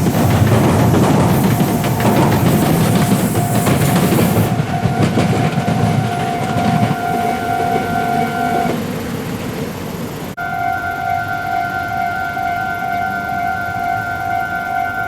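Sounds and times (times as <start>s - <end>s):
level crossing warning bell: 0.0s - 8.8s, 10.4s - 15.0s
electric train rumble: 0.0s - 15.0s.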